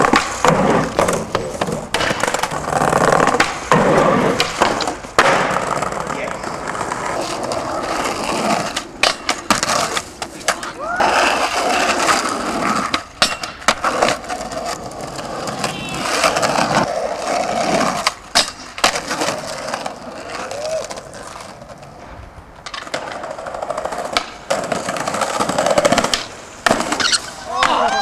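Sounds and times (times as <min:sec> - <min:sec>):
skateboard wheels rolling on concrete: 0:00.0 - 0:28.0
skateboard wooden clacks: 0:00.0 - 0:28.0.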